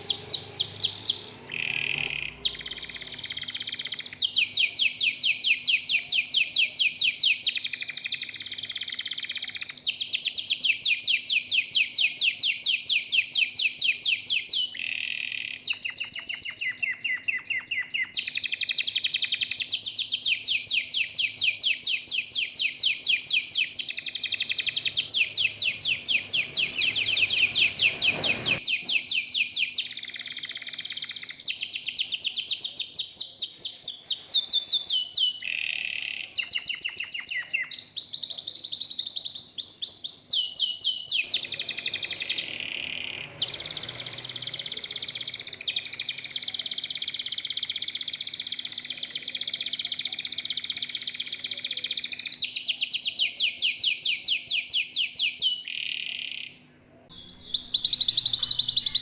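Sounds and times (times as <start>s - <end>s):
canary singing rapid trills: 0.0s - 59.0s.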